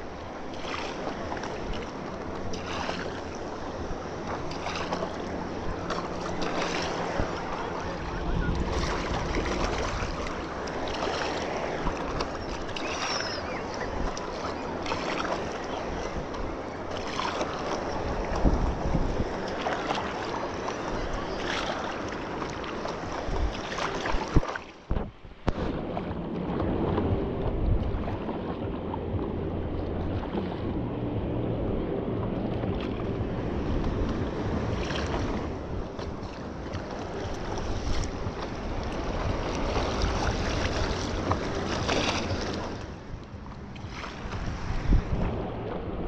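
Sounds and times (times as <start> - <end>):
paddle splashes: 0.0 - 46.0
water sloshing: 0.0 - 46.0
wind rumbling on microphone: 0.0 - 46.0.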